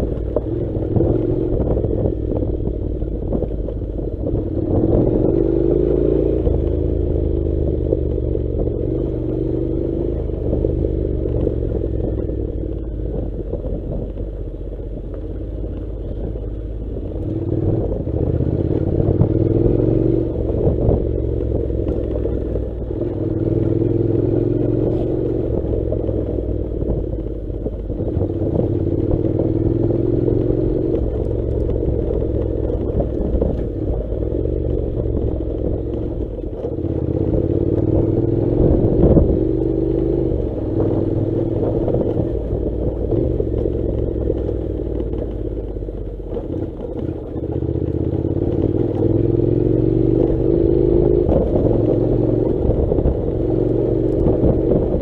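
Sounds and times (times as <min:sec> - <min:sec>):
engine clatter: 0:00.0 - 0:55.0
motorcycle engine running: 0:00.0 - 0:55.0.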